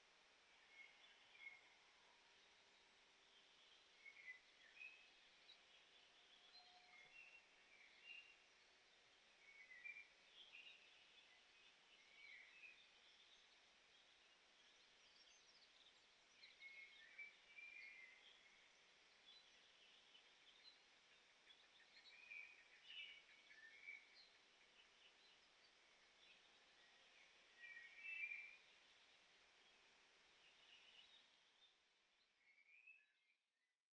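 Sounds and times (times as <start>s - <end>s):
background hiss: 0.0s - 33.0s
small birds chirping: 0.0s - 33.4s.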